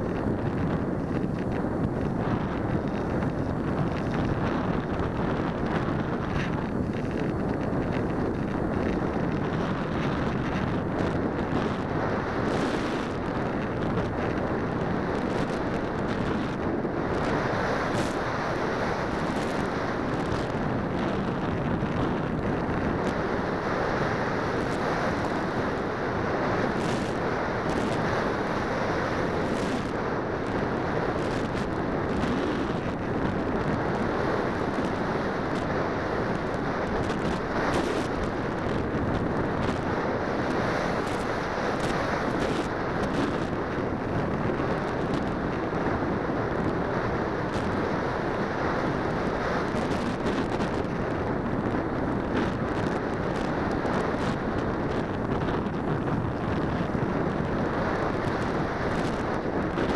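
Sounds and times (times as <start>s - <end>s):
airflow buffeting microphone: 0.0s - 59.9s.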